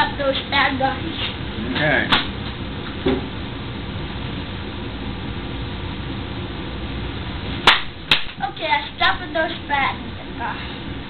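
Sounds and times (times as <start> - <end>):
steady background hum and hiss: 0.0 - 11.0.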